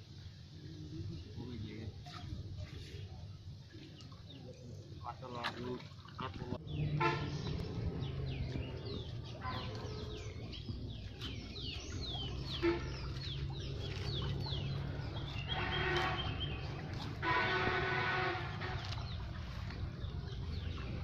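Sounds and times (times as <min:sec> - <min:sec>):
birds chirping: 0:00.6 - 0:21.0.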